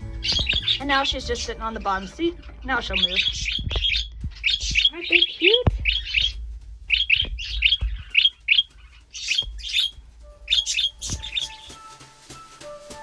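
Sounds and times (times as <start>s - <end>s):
parakeets chirping: 0.0s - 11.9s
music with light percussion: 0.0s - 13.0s.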